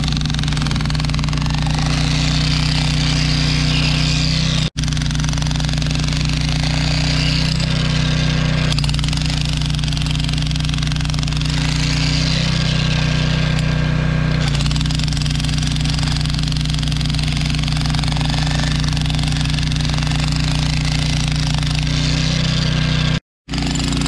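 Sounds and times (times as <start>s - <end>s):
demolition hammer hammering concrete: 0.0s - 13.7s, 14.4s - 24.0s.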